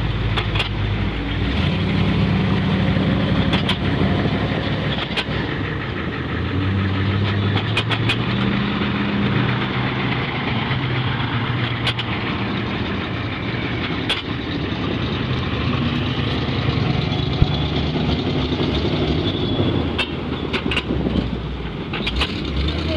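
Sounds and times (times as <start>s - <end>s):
truck engines driving past: 0.0s - 22.9s.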